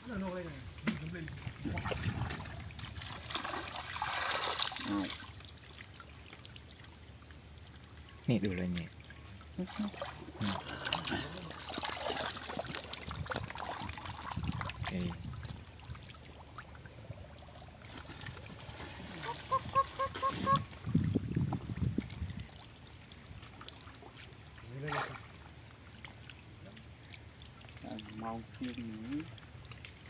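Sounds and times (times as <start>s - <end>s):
muddy water splashing: 0.0s - 30.0s.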